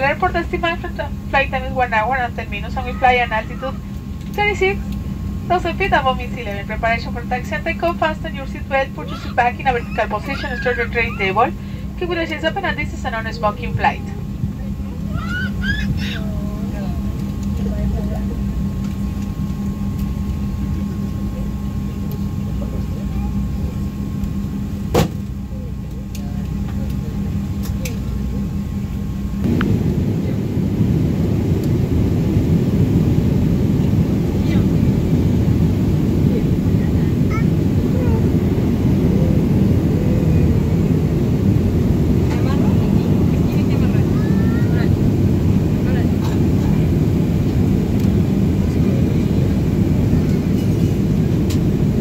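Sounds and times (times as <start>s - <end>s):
jet engine hum with whine: 0.0s - 52.0s.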